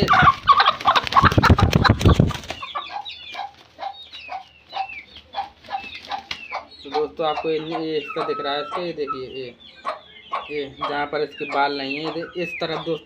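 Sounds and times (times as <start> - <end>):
hen clucking: 0.0 - 13.0
hen squawking and scuffling: 0.0 - 13.0.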